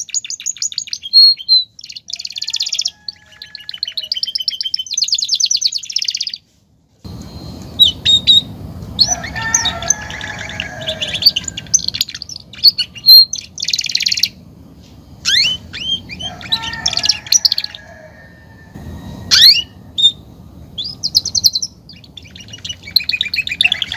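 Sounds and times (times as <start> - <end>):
canary singing trills: 0.0 - 23.9.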